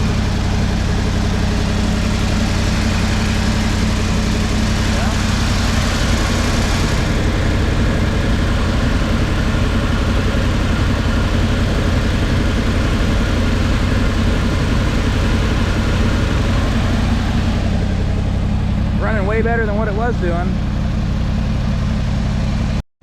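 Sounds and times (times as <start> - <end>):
truck engine idling: 0.0 - 22.8.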